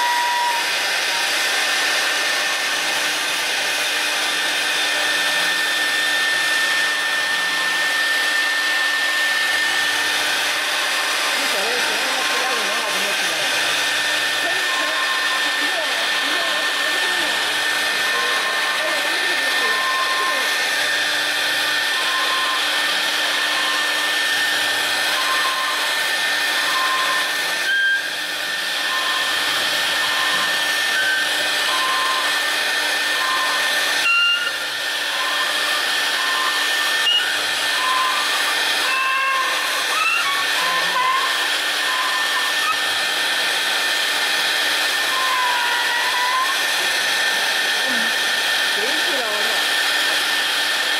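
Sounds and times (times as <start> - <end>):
router spindle whining: 0.0 - 50.9.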